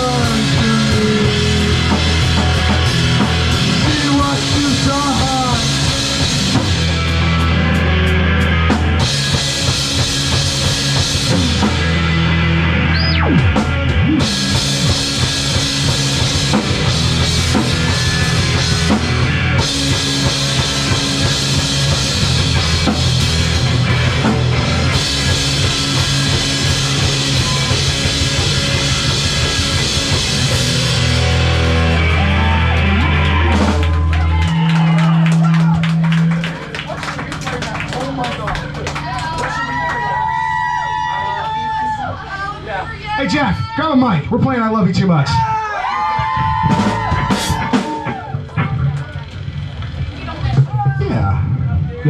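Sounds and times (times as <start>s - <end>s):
live rock band playing: 0.0s - 43.8s, 45.8s - 51.8s.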